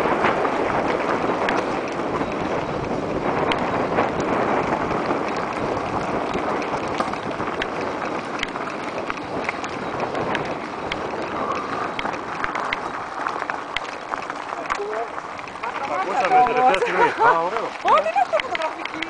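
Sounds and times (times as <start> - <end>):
bike tyres on gravel trail: 0.0 - 19.0
stones and bike rattling: 0.0 - 19.0
wind buffeting microphone: 0.0 - 19.0.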